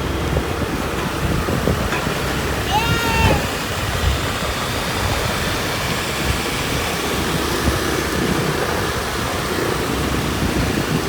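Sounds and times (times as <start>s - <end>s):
motorbike engine and road rumble: 0.0s - 11.0s
wind rushing over microphone: 0.0s - 11.0s.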